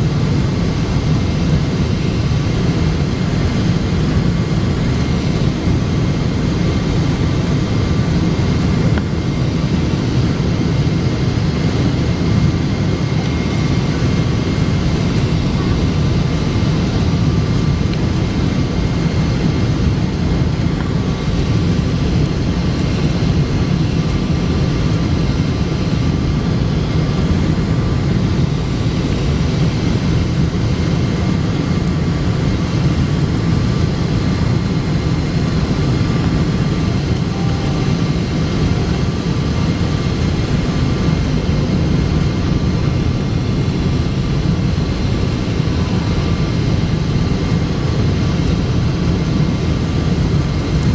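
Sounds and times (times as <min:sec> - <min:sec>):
aircraft cabin engine rumble: 0:00.0 - 0:50.9
faint steady whine: 0:00.0 - 0:50.9.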